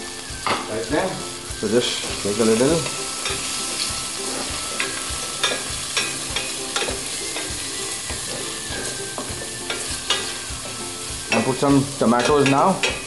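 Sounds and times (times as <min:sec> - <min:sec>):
onions sizzling in oil: 0:00.0 - 0:13.0
spatula scraping a pan: 0:02.0 - 0:13.0.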